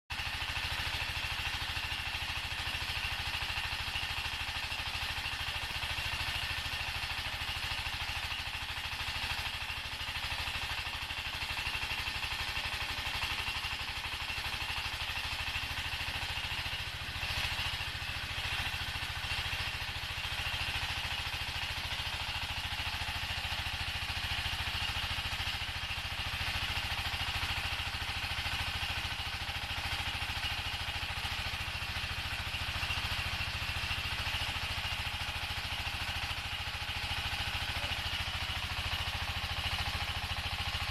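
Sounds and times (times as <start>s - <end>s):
pellet extruder machine drone: 0.1s - 40.9s.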